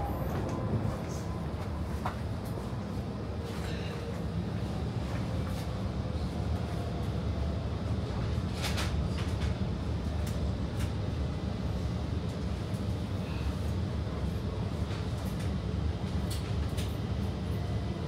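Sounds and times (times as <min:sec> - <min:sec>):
metro train rumbling: 0:00.0 - 0:18.0.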